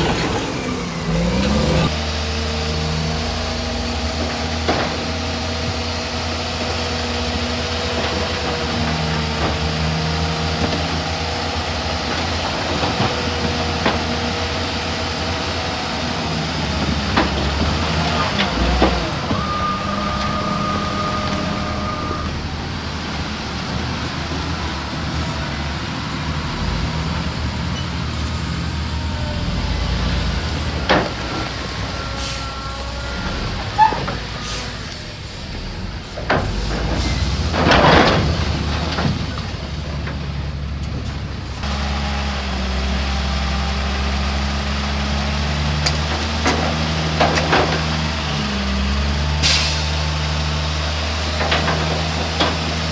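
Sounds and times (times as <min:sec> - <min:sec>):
heavy diesel engines droning: 0:00.0 - 0:52.9.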